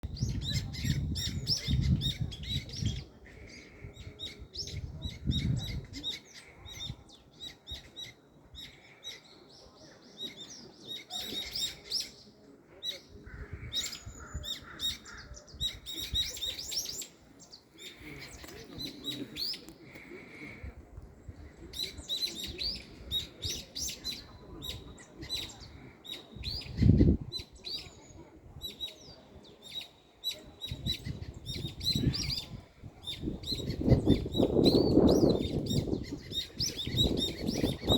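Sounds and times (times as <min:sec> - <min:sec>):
birds chirping: 0:00.2 - 0:37.9.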